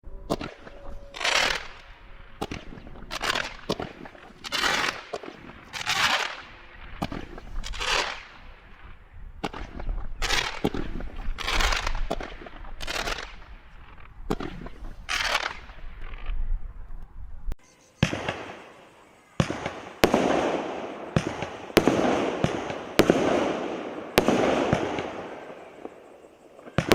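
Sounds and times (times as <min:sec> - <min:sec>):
fireworks shots with crackling tail: 0:00.2 - 0:16.8, 0:18.0 - 0:26.9.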